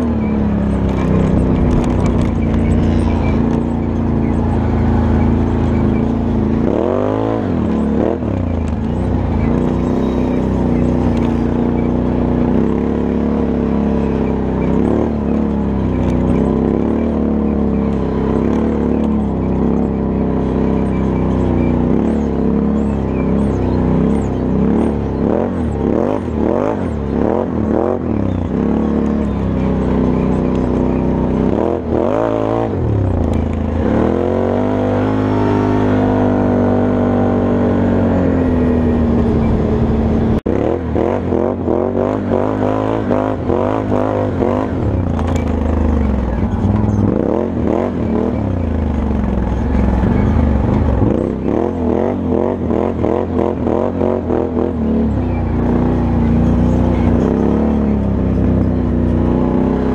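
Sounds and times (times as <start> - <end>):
engine revving: 0.0 - 59.9.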